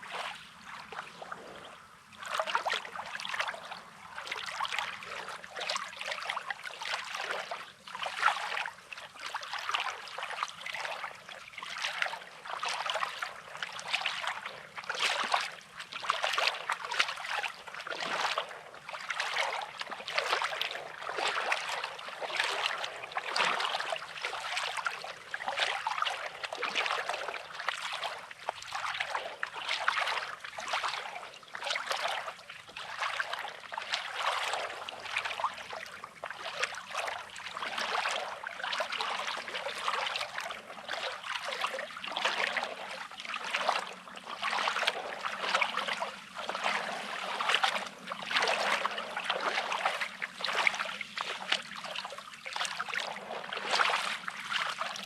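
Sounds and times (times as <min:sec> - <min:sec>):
small waves lapping on pebbles: 0:00.0 - 0:55.0.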